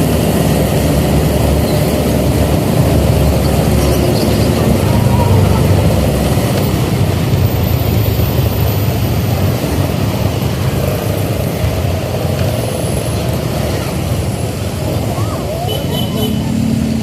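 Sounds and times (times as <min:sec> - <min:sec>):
motorcycle engine rumble: 0:00.0 - 0:17.0
road noise: 0:00.0 - 0:17.0.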